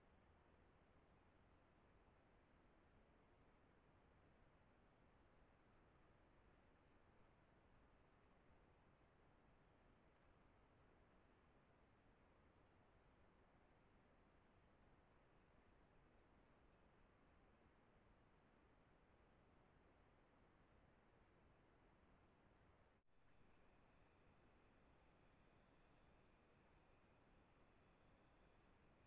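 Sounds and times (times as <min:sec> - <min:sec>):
rapid insect chirps: 0:00.0 - 0:20.6, 0:23.1 - 0:29.0.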